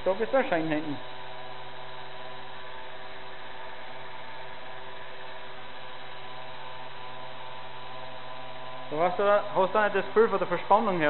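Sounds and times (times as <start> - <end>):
bicycle wheel whirring on trainer: 0.0 - 11.0.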